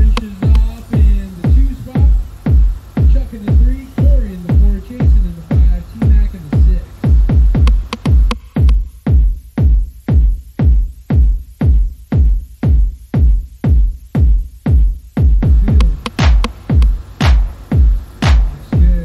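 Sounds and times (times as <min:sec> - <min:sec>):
electronic music with heavy kick drum: 0:00.0 - 0:19.0.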